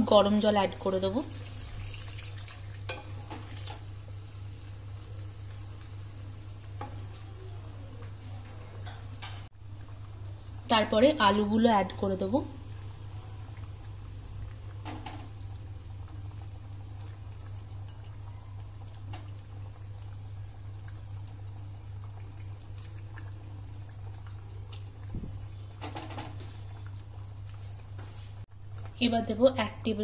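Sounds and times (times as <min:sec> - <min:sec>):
gravy bubbling and crackling: 0:00.0 - 0:30.0.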